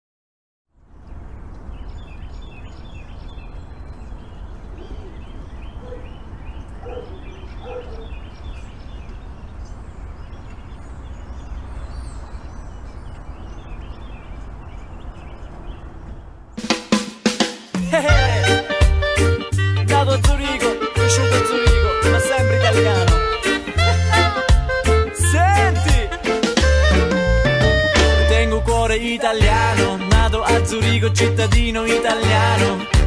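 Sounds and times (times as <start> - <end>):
birds chirping: 0.8 - 33.0.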